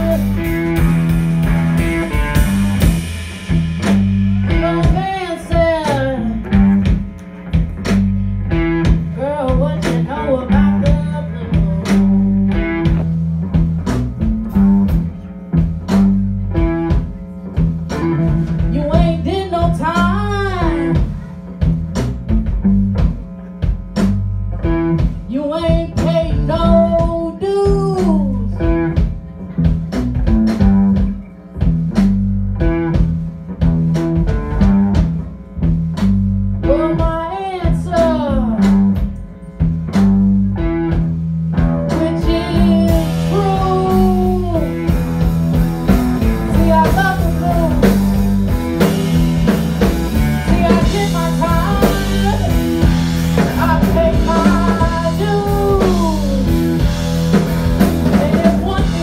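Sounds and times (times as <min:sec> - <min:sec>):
blues band playing: 0:00.0 - 0:59.0
sliding bending guitar lead: 0:00.0 - 0:59.0.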